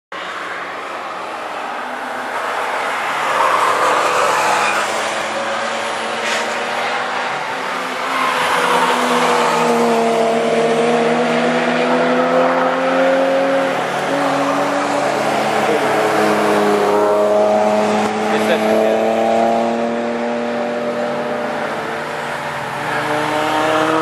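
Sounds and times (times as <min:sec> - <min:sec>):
cars passing: 0:00.1 - 0:24.0.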